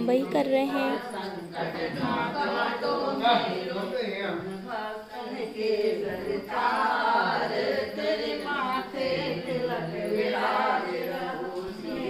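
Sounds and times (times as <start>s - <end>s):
group singing a hymn: 0.2s - 12.0s.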